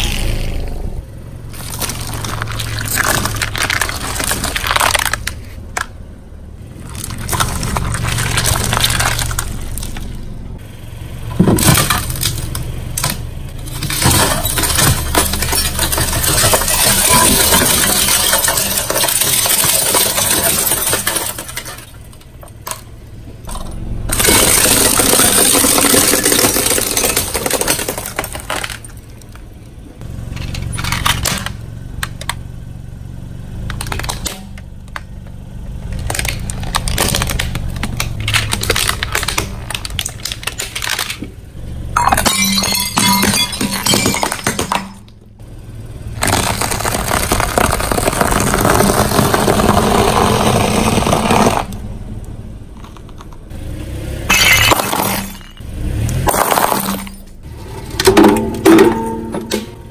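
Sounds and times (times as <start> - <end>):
tyre crushing brittle tubes: 1.5 - 6.0, 6.6 - 10.3, 11.3 - 22.9, 23.5 - 29.5, 30.2 - 32.4, 33.6 - 45.3, 46.1 - 51.8, 54.3 - 59.9.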